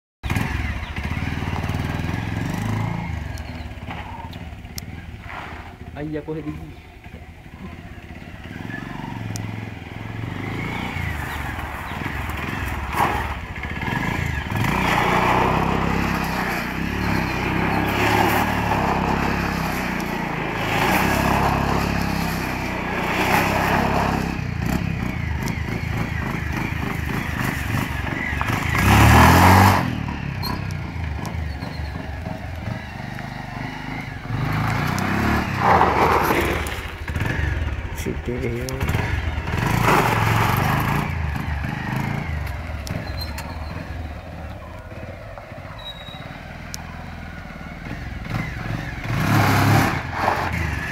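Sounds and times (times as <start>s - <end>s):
motorcycle engine revving: 0.2s - 50.9s.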